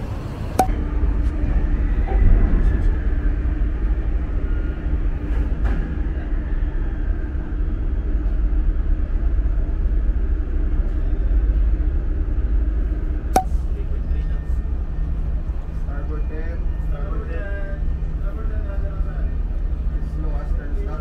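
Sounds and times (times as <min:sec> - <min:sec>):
faint steady hums: 0:00.0 - 0:21.0
ship engines rumbling: 0:00.0 - 0:21.0.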